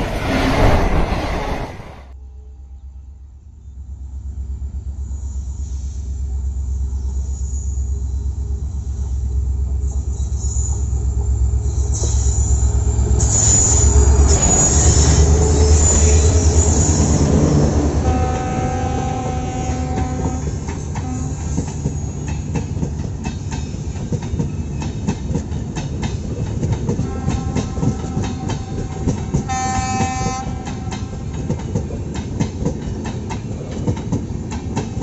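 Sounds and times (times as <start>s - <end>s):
diesel locomotive engine rumble: 0.0s - 35.0s
train coaches whine: 0.0s - 35.0s.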